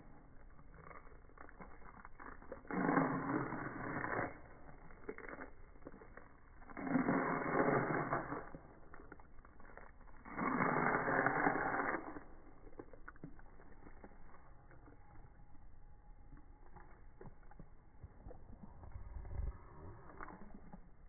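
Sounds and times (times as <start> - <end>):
dog chewing slowed crunches: 0.0 - 21.0.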